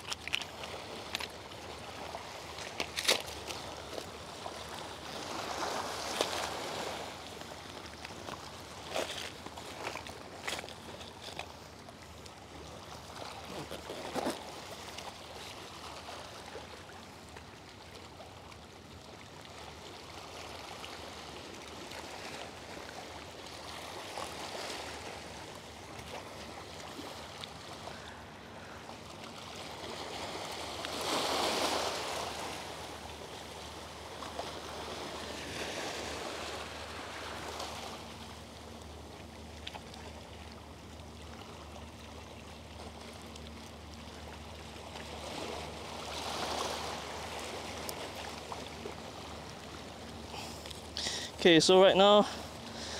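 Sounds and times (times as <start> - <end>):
small waves lapping on rocks: 0.0 - 52.9.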